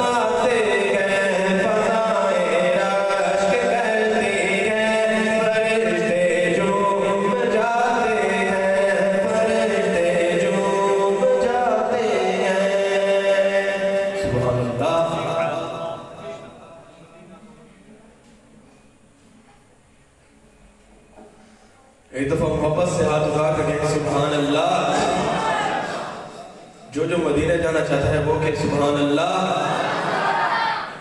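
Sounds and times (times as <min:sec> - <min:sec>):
man chanting unaccompanied: 0:00.0 - 0:17.9, 0:22.1 - 0:29.9.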